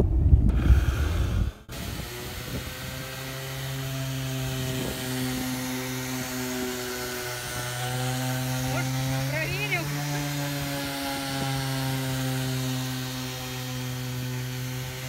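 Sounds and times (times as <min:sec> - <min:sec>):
electric sander humming: 0:00.2 - 0:15.0.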